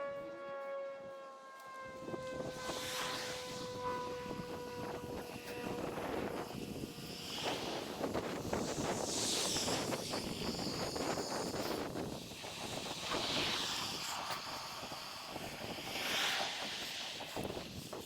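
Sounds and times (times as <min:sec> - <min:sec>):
wind buffeting microphone: 0:01.8 - 0:18.0.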